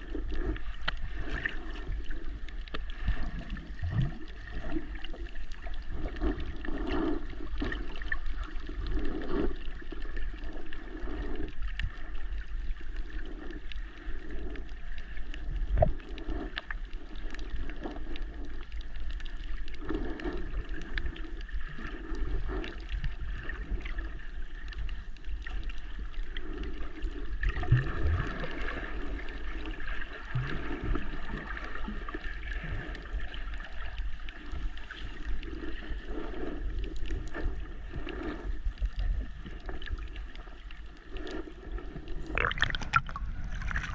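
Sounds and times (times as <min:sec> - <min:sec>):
underwater sloshing and gurgling: 0:00.0 - 0:43.9.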